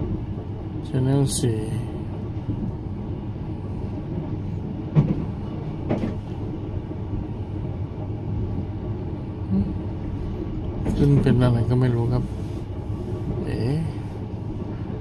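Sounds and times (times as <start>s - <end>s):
train rumble inside compartment: 0.0s - 15.0s.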